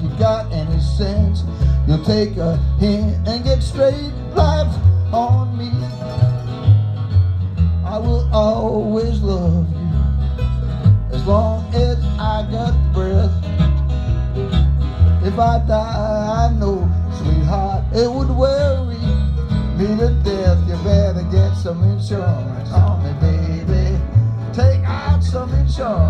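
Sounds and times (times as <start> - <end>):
mandolin: 0.0 - 26.0
strummed acoustic guitars: 0.0 - 26.0
upright bass walking: 0.0 - 26.0.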